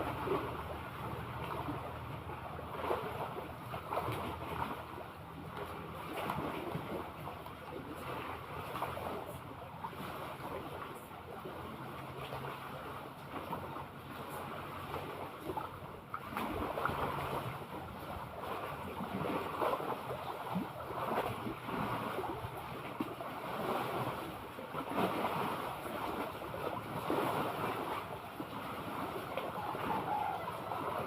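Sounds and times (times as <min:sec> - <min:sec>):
sea water lapping: 0:00.0 - 0:31.0.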